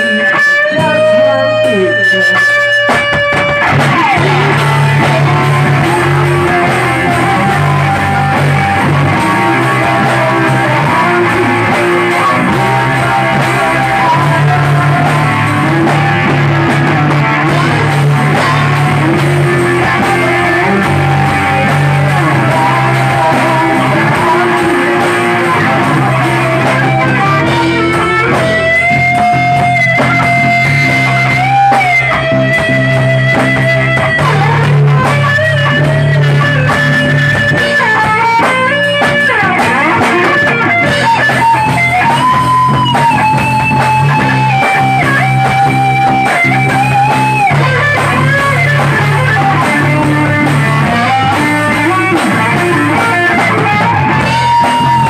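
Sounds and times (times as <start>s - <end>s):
bass guitar: 0.0s - 55.0s
drum kit: 0.0s - 55.0s
electric guitar lead: 0.0s - 55.0s.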